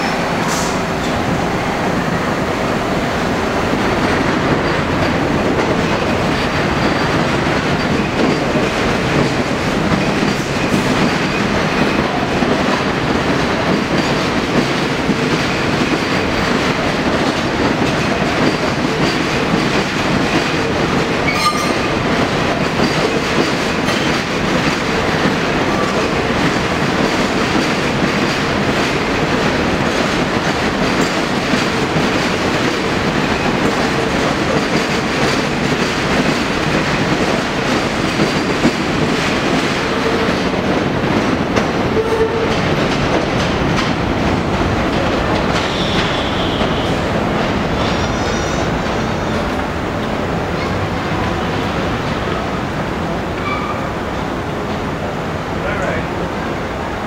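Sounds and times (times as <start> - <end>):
subway train rolling past: 0.0 - 57.0.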